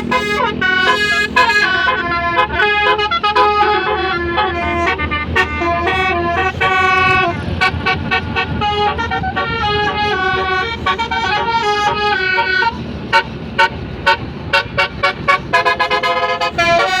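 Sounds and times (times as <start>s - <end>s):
musical air horn playing a tune: 0.0s - 17.0s.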